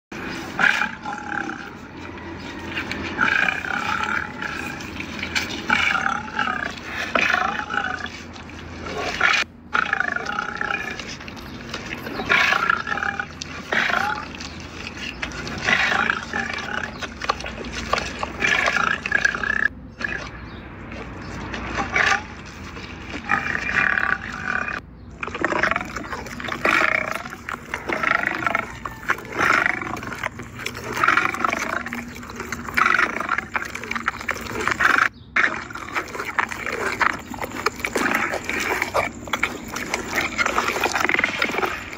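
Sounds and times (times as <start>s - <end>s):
lion growling and roaring: 0.2s - 41.9s.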